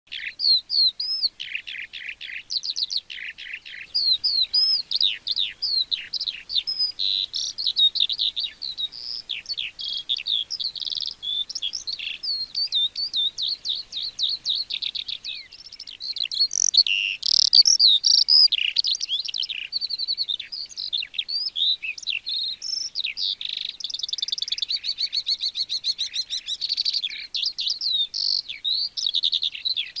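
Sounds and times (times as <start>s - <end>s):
skylark singing: 0.1s - 30.0s.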